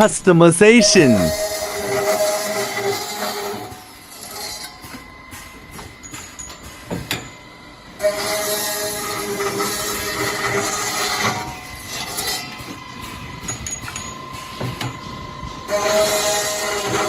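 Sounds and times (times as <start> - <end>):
circular saw cutting metal: 0.8 - 6.9, 7.9 - 17.0.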